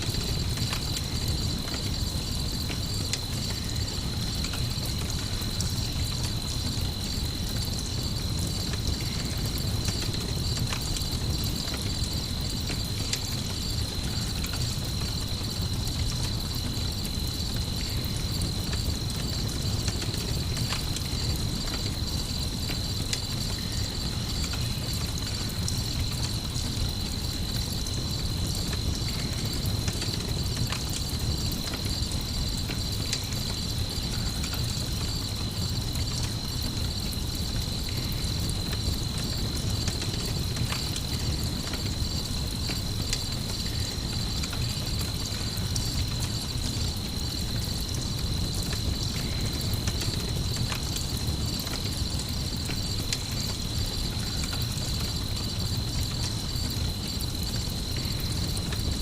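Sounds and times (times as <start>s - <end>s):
campfire crackles: 0.0s - 59.0s
crickets chirping: 0.0s - 59.0s.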